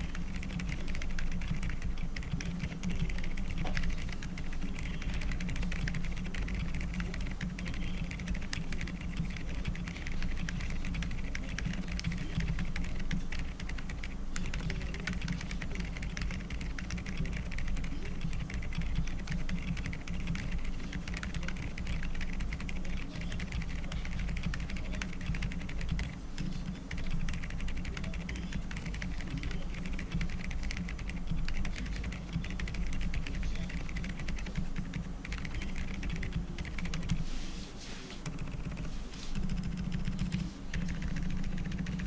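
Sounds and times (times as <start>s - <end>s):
fast typing on mechanical keyboard: 0.0s - 37.3s, 38.2s - 42.0s.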